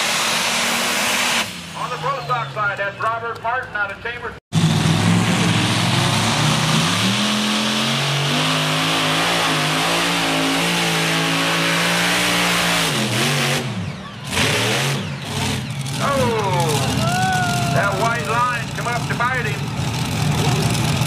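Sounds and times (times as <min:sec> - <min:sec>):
diesel tractor engine revving: 0:00.0 - 0:21.0.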